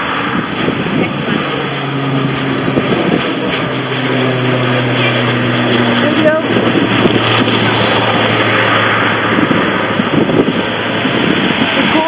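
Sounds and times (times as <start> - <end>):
airliner passing overhead: 0.0 - 12.0
low propeller drone: 0.0 - 12.0.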